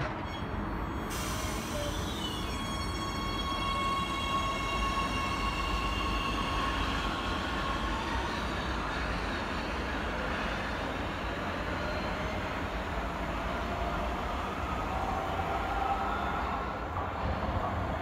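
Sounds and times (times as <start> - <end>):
electric train whine: 0.0 - 18.0
train wheels rumbling on rail: 0.0 - 18.0.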